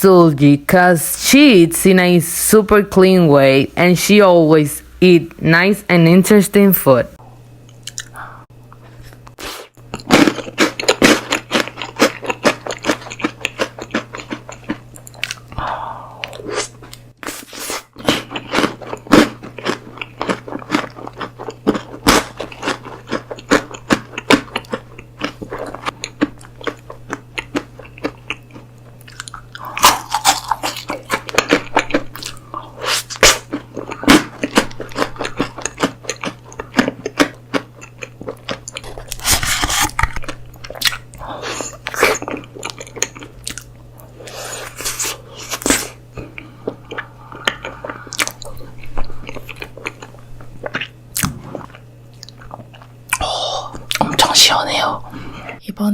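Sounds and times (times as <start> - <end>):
crunching bites and chewing: 7.7 - 8.2, 9.1 - 15.6, 16.2 - 54.2.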